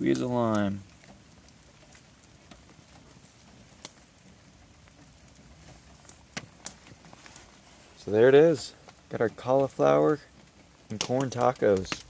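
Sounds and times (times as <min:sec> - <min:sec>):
faint rain patter: 0:00.0 - 0:12.0.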